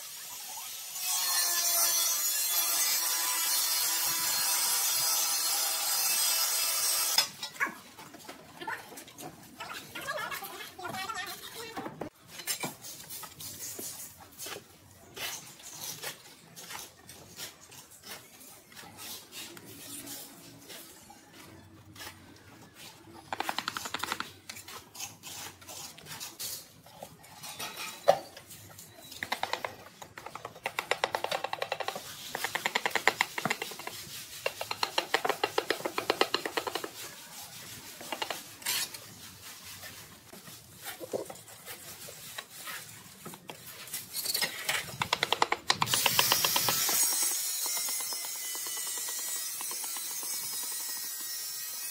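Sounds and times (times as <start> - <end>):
trowel scraping and tapping tiles: 7.1 - 51.9.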